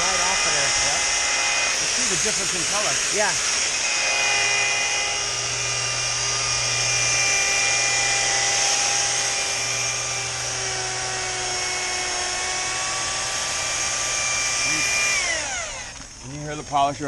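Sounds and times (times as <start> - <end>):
electric polisher buffing glass: 0.0 - 17.0.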